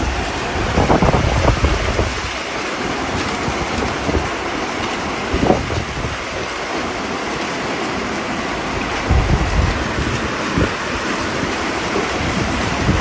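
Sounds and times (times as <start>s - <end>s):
wind gusts buffeting microphone: 0.0s - 7.2s, 8.3s - 13.0s
heavy rain roaring: 0.0s - 13.0s.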